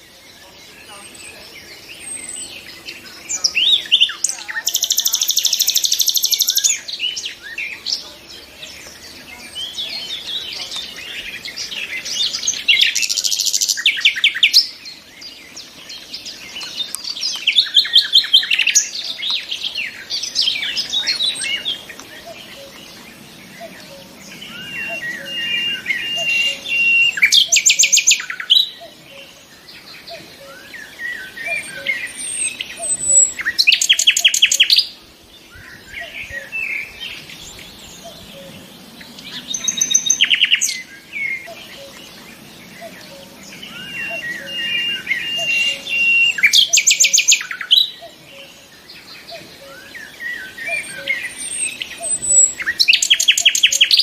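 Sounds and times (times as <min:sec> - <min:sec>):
nightingale singing: 0:00.0 - 0:54.0.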